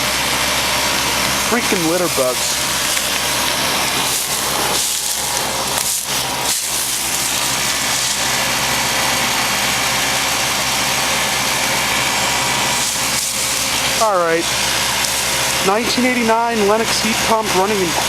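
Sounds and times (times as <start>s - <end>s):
compressor hum: 0.0s - 18.0s
fan rushing: 0.0s - 18.0s.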